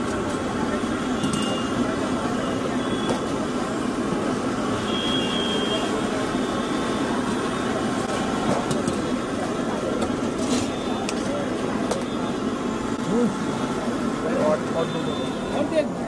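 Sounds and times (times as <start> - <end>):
background chatter: 0.0 - 16.0
traffic noise: 0.0 - 16.0.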